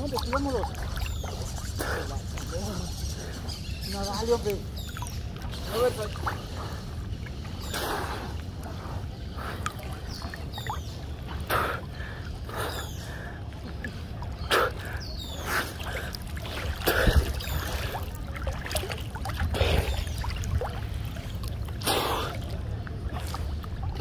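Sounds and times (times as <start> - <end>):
water splashing from swimming: 0.0 - 24.0.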